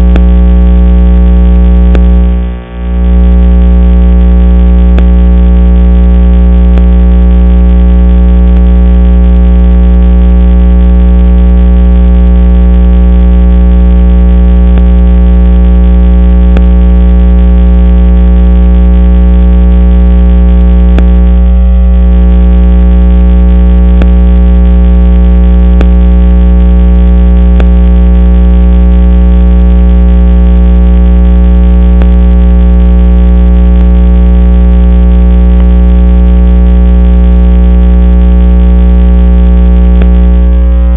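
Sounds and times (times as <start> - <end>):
electronic hum: 0.0 - 40.9.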